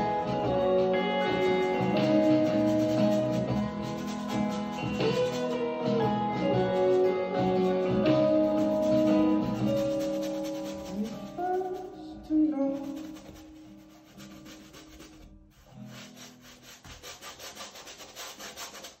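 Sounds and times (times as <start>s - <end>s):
paintbrush scrubbing on canvas: 0.0s - 19.0s.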